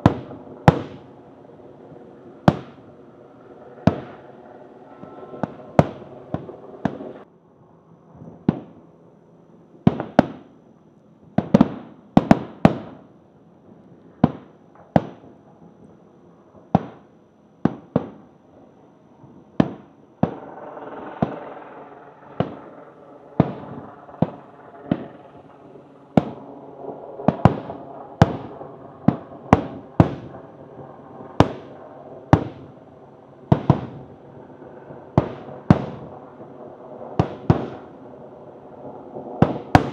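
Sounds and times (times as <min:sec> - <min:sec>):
fireworks bursting with echo: 0:00.0 - 0:07.3, 0:08.1 - 0:08.8, 0:09.8 - 0:10.6, 0:11.3 - 0:13.1, 0:14.2 - 0:15.6, 0:16.6 - 0:39.9.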